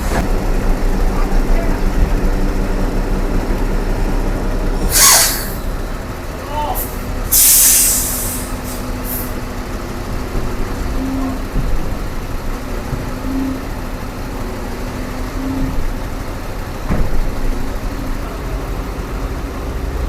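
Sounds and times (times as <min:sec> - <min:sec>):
heavy machine engine idling: 0:00.0 - 0:20.0.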